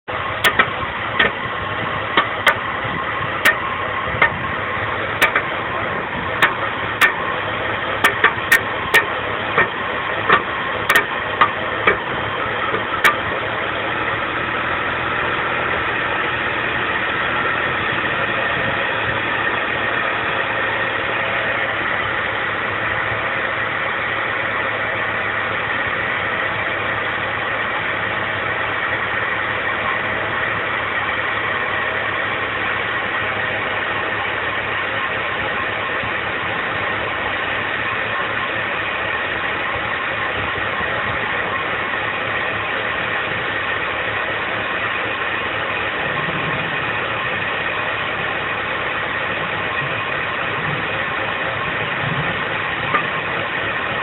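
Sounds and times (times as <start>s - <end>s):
car engine idling roughly: 0.0s - 54.0s.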